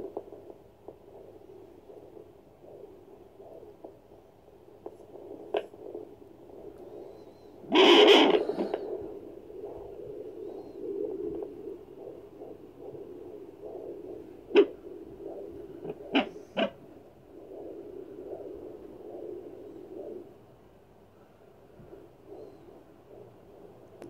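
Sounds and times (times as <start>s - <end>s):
fetal heartbeat on doppler: 0.0s - 24.0s.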